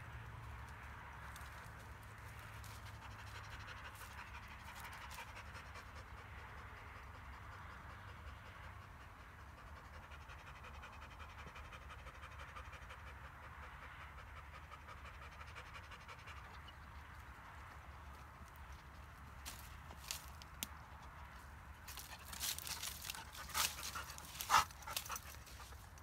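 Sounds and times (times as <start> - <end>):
dog panting: 2.6 - 19.0, 21.0 - 26.0.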